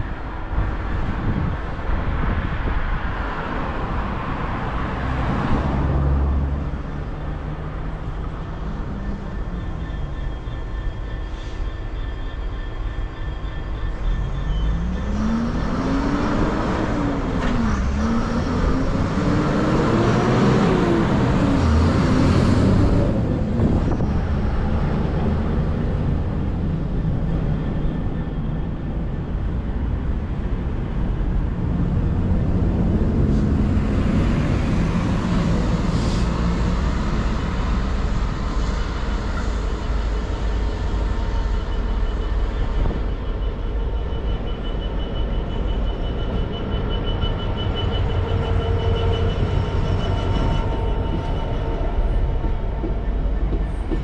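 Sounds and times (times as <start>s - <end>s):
diesel locomotive engine: 0.0s - 54.0s
train wheels rumbling on rails: 0.0s - 54.0s.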